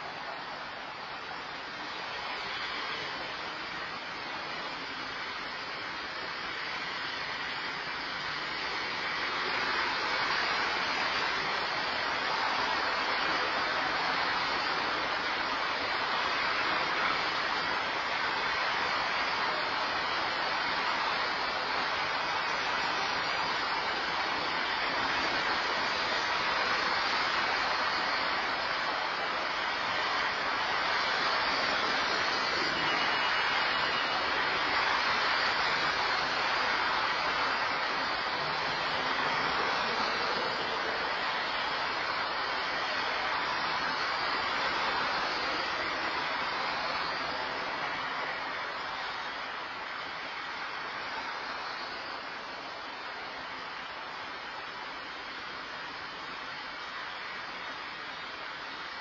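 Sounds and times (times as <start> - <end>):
road traffic hiss: 0.0 - 59.0.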